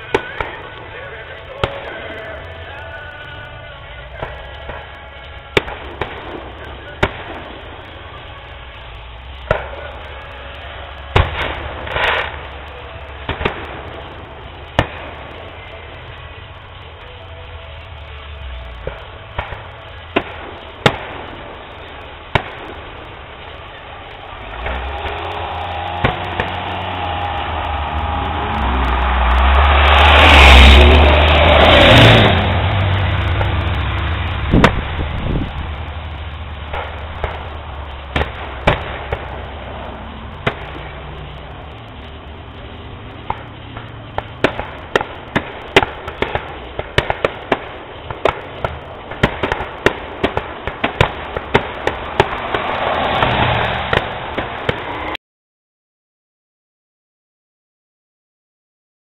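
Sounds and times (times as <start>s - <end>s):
crackling pops: 0.0s - 55.2s
fireworks bangs: 0.0s - 55.2s
fireworks rumble: 0.0s - 55.2s.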